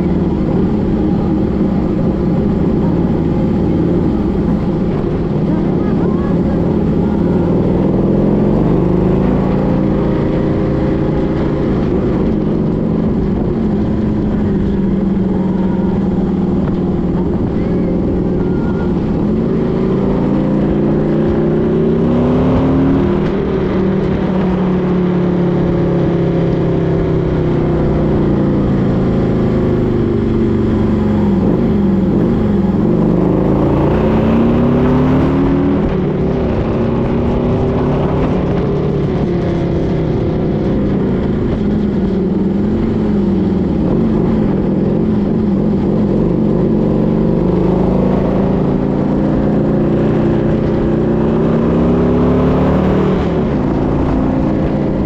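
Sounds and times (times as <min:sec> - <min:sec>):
steady low rumble: 0:00.0 - 0:55.0
vehicle engine running: 0:00.0 - 0:55.0.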